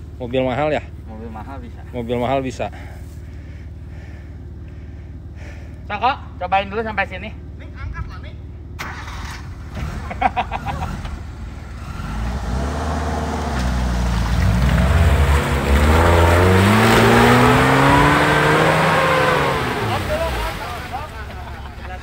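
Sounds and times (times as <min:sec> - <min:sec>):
off-road vehicle engine revving: 0:00.0 - 0:07.8, 0:08.4 - 0:22.0.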